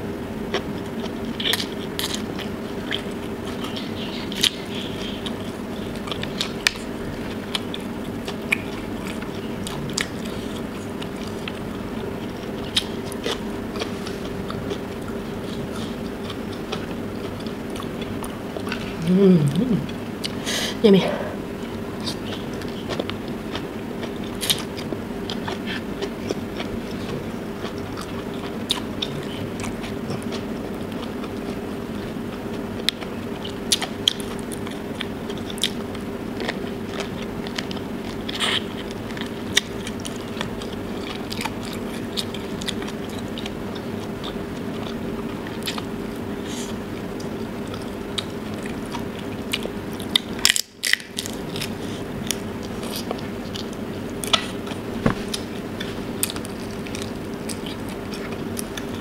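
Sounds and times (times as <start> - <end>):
steady low hum: 0.0 - 59.0
chewing food: 0.5 - 20.4, 21.5 - 59.0.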